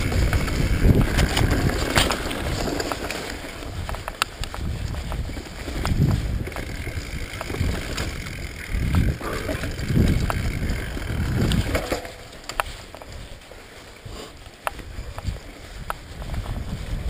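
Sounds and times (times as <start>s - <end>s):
bike clicking and rattling: 0.0s - 17.0s
wind rumbling on microphone: 0.0s - 17.0s.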